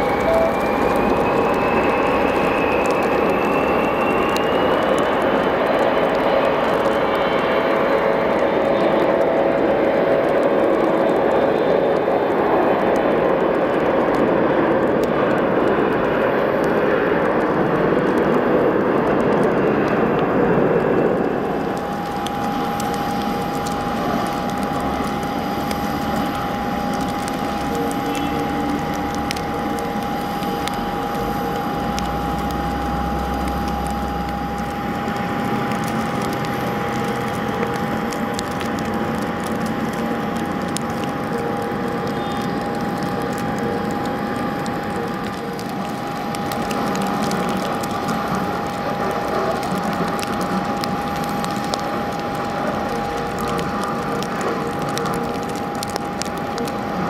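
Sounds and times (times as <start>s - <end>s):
jet engines roaring: 0.0s - 56.7s.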